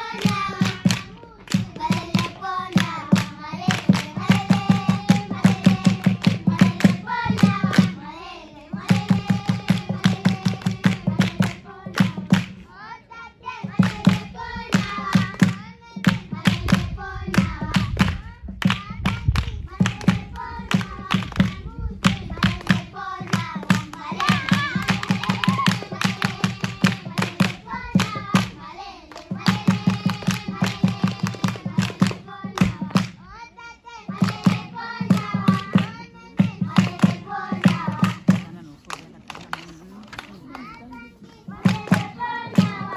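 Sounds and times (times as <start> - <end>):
fast hand clapping: 0.0 - 8.0, 8.8 - 12.7, 13.8 - 33.2, 34.2 - 42.9
people singing together: 0.0 - 39.1, 40.1 - 42.9.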